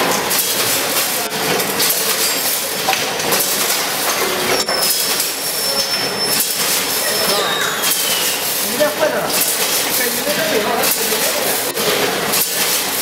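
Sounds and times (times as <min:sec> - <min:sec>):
packaging machine clattering: 0:00.0 - 0:13.0.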